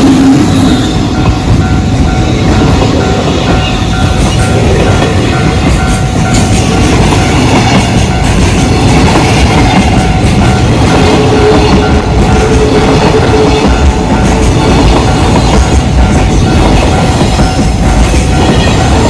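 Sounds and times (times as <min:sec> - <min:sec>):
crossing warning bell ringing: 0:00.0 - 0:19.0
train wheels clacking over rails: 0:00.0 - 0:19.0.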